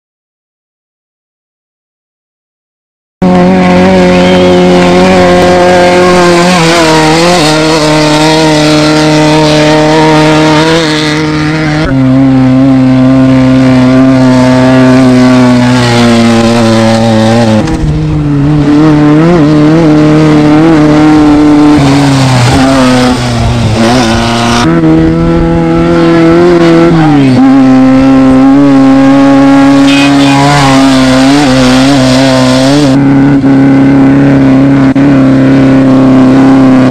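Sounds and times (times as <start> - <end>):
off-road vehicle engine revving hard: 3.2 - 36.9.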